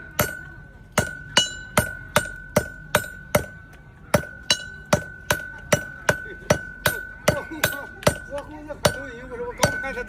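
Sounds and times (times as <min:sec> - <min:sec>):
hammer ringing on anvil: 0:00.0 - 0:10.0.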